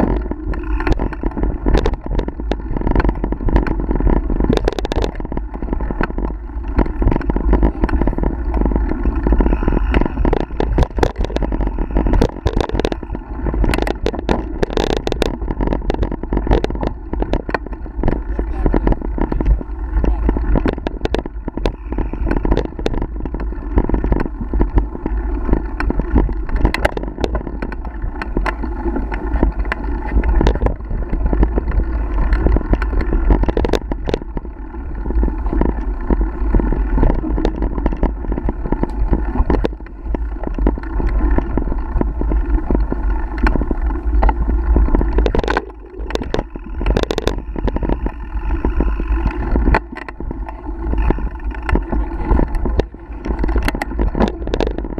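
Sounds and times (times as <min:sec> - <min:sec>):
bike knocks and rattles: 0:00.0 - 0:54.9
bike tyre noise: 0:00.0 - 0:54.9
wind rumble on microphone: 0:00.0 - 0:54.9.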